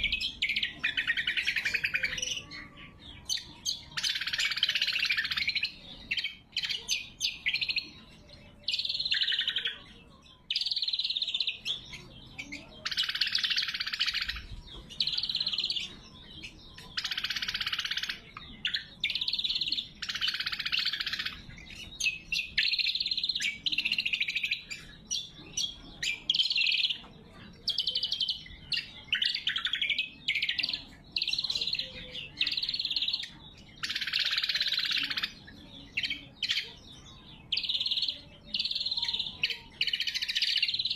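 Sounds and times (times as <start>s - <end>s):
bird singing sharp phrases: 0.0s - 40.9s.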